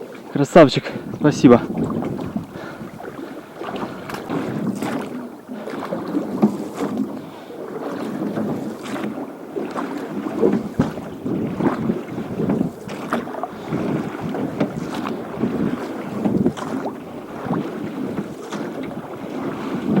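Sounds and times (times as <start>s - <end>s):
boat and oars knocking: 0.0s - 20.0s
water splashing: 0.0s - 20.0s
wind on the microphone: 0.7s - 7.3s, 10.2s - 20.0s.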